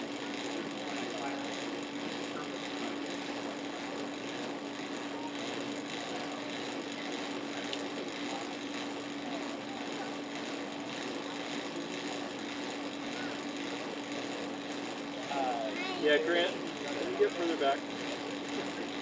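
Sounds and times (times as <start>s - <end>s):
aircraft propeller whirring: 0.0s - 19.0s.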